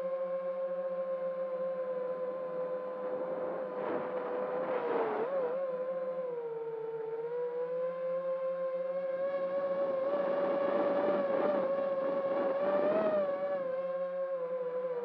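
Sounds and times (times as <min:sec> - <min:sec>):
drone motors whining: 0:00.3 - 0:15.0.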